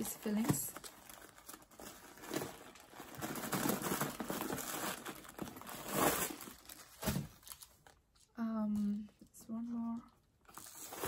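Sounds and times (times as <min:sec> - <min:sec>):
paper crinkling and rustling: 0:00.0 - 0:09.0.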